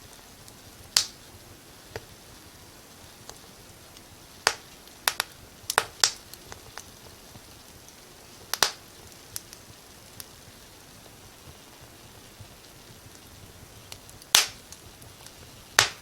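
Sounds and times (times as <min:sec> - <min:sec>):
faint steady hiss: 0:00.0 - 0:16.0
wood fire crackling and popping: 0:00.0 - 0:16.0.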